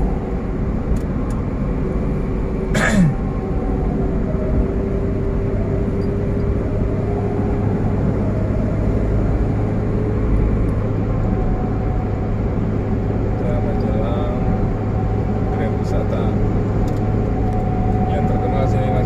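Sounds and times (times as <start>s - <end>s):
engine and road noise drone: 0.0s - 19.0s.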